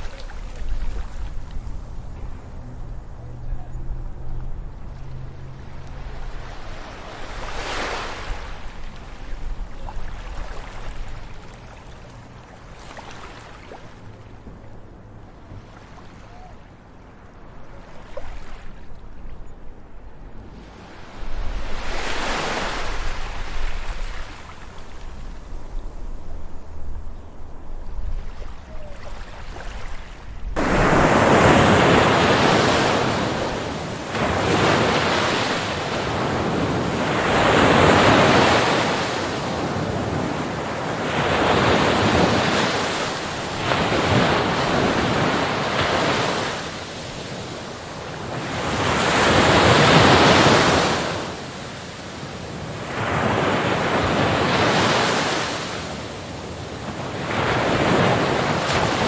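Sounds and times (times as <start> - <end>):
waves breaking on beach: 0.0 - 3.4, 4.4 - 19.2, 20.4 - 26.8, 27.9 - 59.0.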